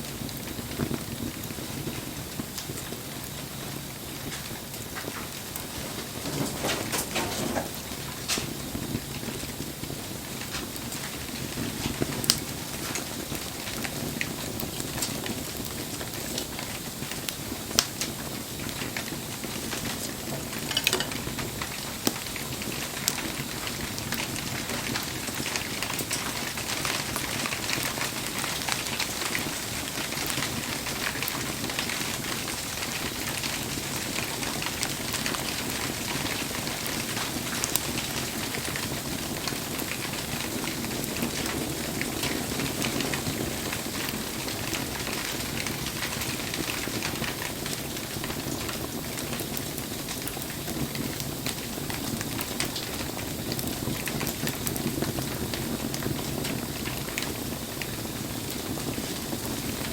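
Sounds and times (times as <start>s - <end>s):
campfire crackling and popping: 0.0s - 59.9s
falling rain: 0.0s - 59.9s.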